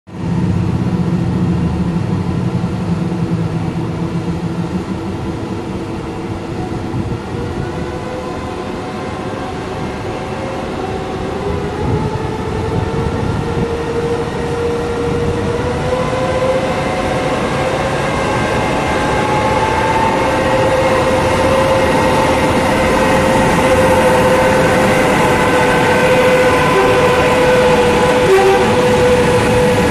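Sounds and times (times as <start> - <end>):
electric locomotive hum and whine: 0.1 - 29.9.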